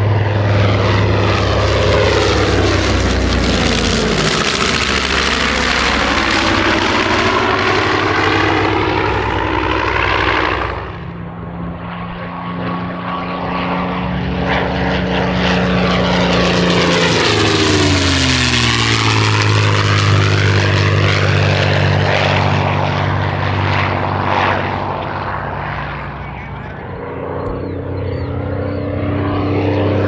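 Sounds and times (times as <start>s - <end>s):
propeller plane engine flyby: 0.0s - 30.0s.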